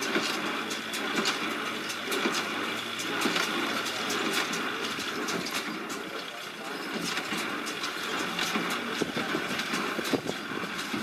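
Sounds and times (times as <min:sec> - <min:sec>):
straw baler running: 0:00.0 - 0:11.0.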